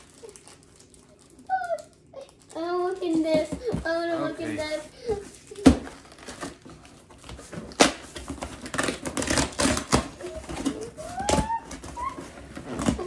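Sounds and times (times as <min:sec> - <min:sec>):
packing tape tearing: 0:00.0 - 0:03.2, 0:05.5 - 0:13.0.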